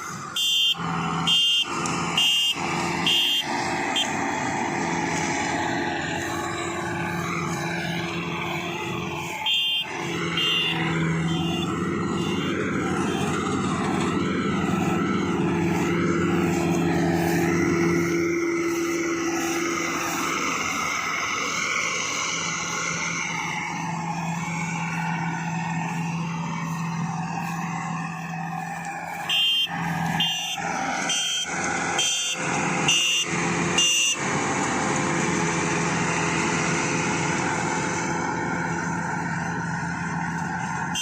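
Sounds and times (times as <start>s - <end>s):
harvester engine running: 0.0s - 41.0s.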